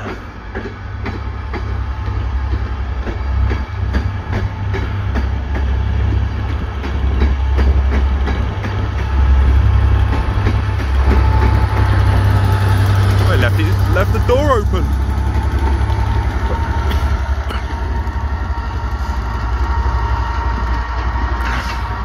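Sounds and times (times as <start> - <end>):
train deep rumble: 0.0 - 22.0
train wheels clicking over rail joints: 0.0 - 22.0.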